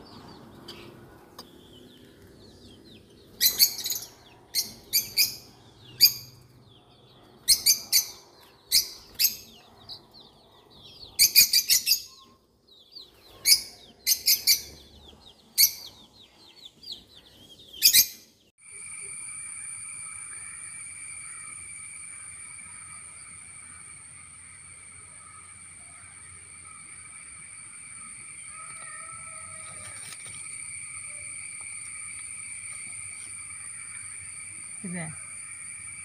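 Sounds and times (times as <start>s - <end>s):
sharp high bird chirps: 0.0s - 36.0s.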